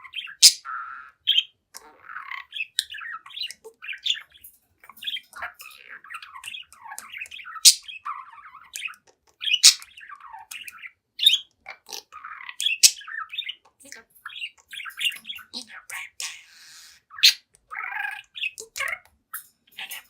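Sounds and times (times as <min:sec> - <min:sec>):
budgerigar warbling and chattering: 0:00.0 - 0:19.1, 0:19.8 - 0:20.0.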